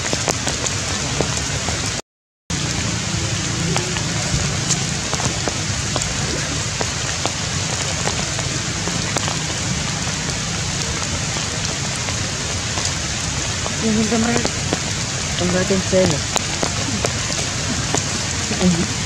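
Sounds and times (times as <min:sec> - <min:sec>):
raindrops ticking: 0:00.0 - 0:19.0
steady rain hiss: 0:00.0 - 0:19.0.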